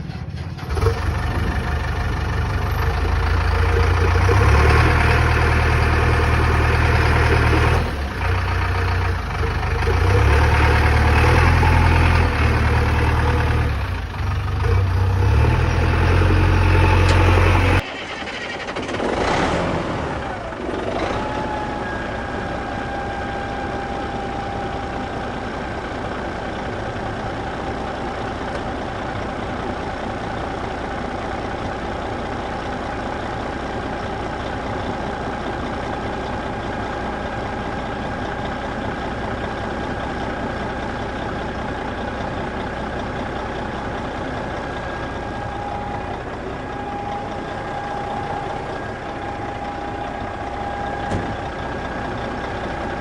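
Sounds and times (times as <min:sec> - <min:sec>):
engine running with high whine: 0:00.0 - 0:53.0.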